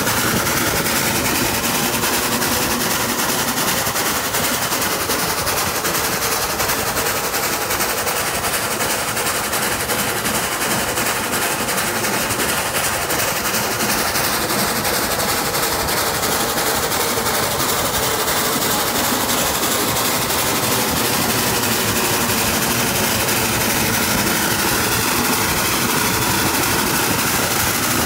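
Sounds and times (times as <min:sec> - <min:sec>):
rail and wind noise: 0:00.0 - 0:28.0
steam locomotive chuffs: 0:00.0 - 0:28.0.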